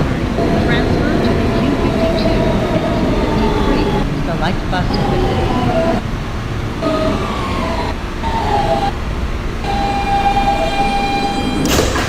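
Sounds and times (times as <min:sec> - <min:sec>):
traction motors whining: 0:00.0 - 0:12.0
wheels rumbling on rail: 0:00.0 - 0:12.0.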